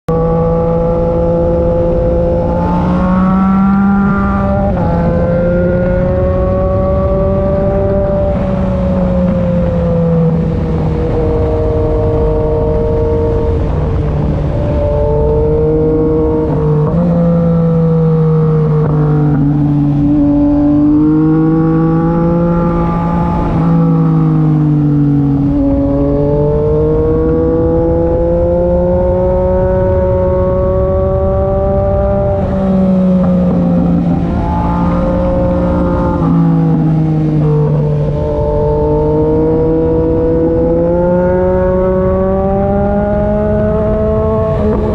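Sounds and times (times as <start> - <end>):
motorcycle engine accelerating: 0.1 - 44.9.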